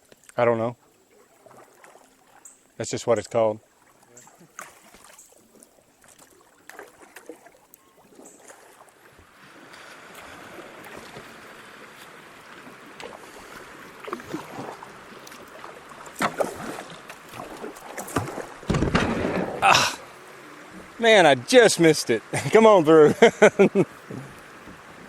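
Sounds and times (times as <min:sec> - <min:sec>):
water rushing: 0:00.0 - 0:25.0
paddle splashes and knocks: 0:01.2 - 0:02.4, 0:03.6 - 0:21.3, 0:23.9 - 0:25.0.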